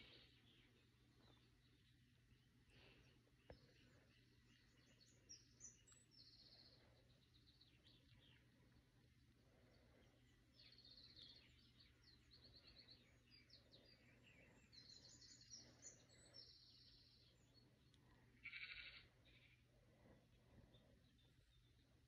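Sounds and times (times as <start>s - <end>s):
faint bird trills and chirps: 0.0s - 22.0s.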